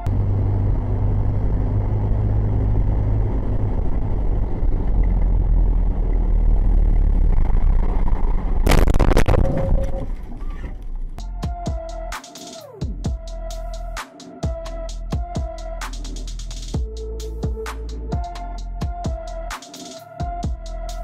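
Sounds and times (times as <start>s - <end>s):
low hum: 0.0s - 12.2s, 12.9s - 19.5s
traffic road and engine rumble: 0.0s - 12.2s, 12.8s - 21.0s.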